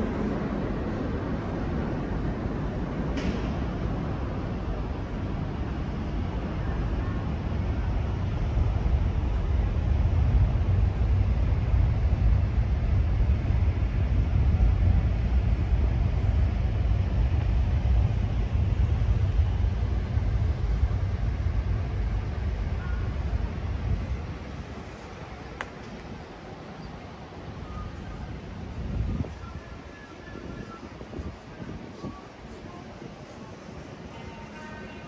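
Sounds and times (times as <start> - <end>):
wind buffeting microphone: 0.0 - 34.1
faint city background: 0.0 - 35.0.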